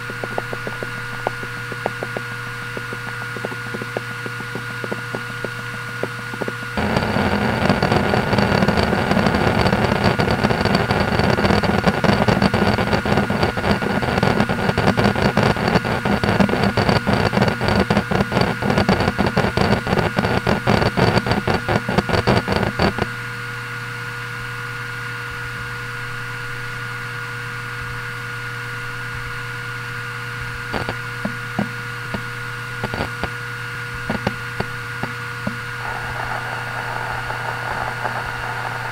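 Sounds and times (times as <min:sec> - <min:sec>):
hard drive seek clicks: 0:00.0 - 0:23.1, 0:30.7 - 0:38.9
hard drive spinning hum: 0:00.0 - 0:23.3, 0:28.7 - 0:38.9.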